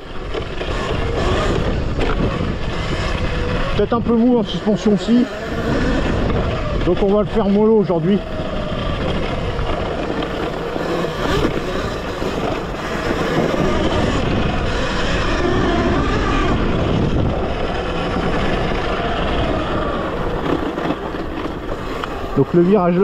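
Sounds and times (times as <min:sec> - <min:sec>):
electric dirt bike drive whine: 0:00.0 - 0:23.0
rush of noise: 0:00.0 - 0:23.0.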